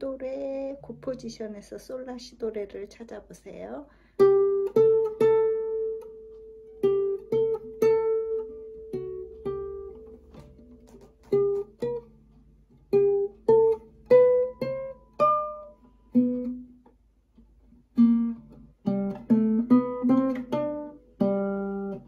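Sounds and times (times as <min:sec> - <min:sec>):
acoustic guitar single notes: 0:00.0 - 0:02.5, 0:03.9 - 0:22.0.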